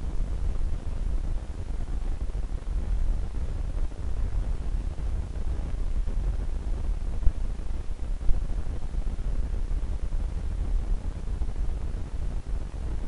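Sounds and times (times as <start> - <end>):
low rumble with hiss: 0.0 - 13.0.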